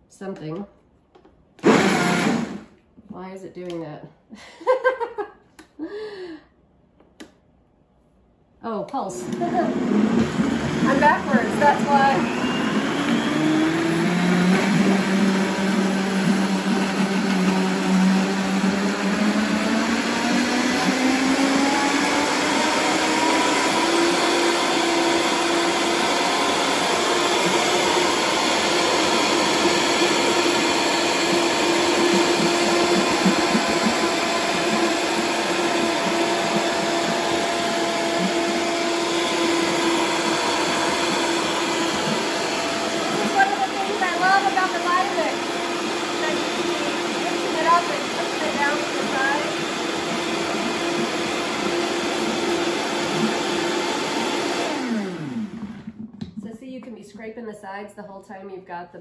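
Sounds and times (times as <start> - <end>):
blender motor running: 1.6 - 2.7, 9.2 - 56.1.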